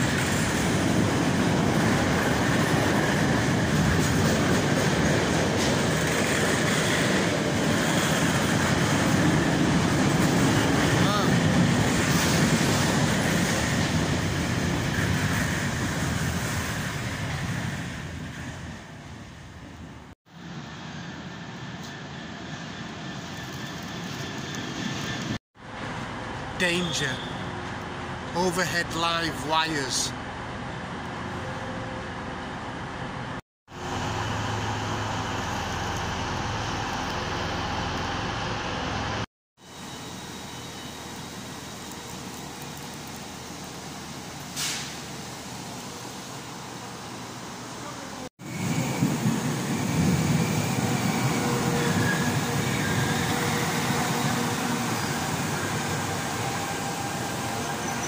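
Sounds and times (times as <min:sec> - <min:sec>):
railway station mechanical rumble: 0:00.0 - 0:58.0.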